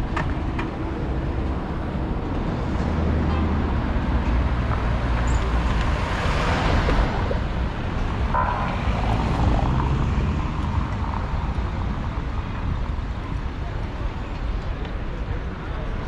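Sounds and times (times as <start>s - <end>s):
road vehicle rumble and hiss: 0.0s - 16.0s.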